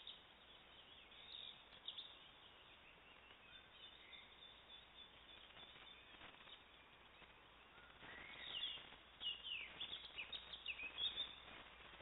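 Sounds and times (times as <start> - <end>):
faint steady hiss: 0.0 - 12.0
songbird singing: 0.0 - 12.0.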